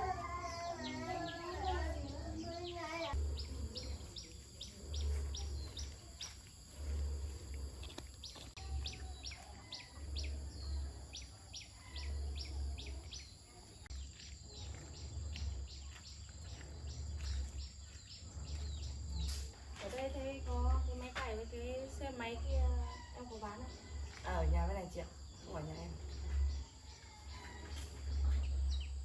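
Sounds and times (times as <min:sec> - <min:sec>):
bird chirping: 0:00.0 - 0:29.0
low rumble: 0:00.0 - 0:29.0.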